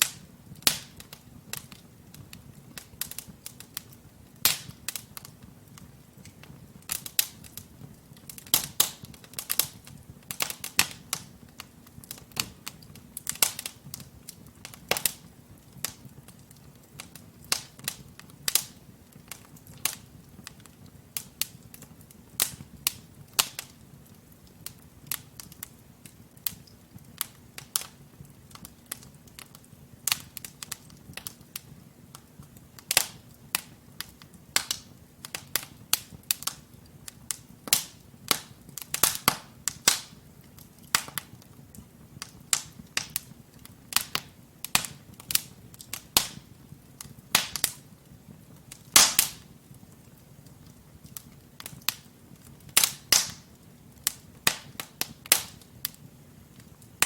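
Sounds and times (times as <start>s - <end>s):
logs crackling and popping: 0.0s - 57.0s
low rumble of flames: 0.0s - 57.0s.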